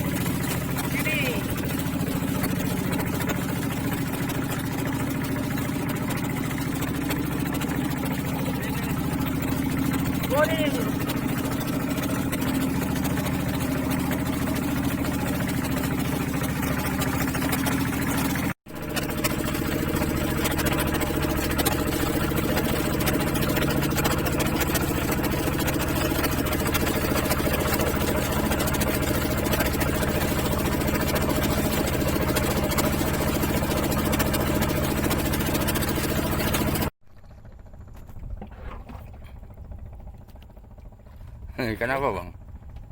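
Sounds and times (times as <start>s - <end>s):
boat motor running: 0.0s - 42.9s.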